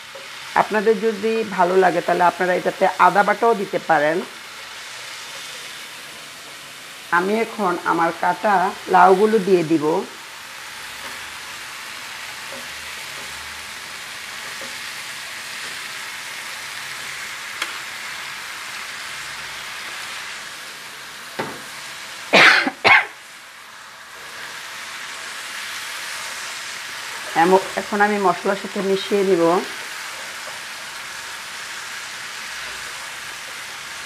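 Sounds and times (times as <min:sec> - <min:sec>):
loud sizzle bursts: 0:00.0 - 0:34.0
masala sizzling in hot oil: 0:00.0 - 0:34.0.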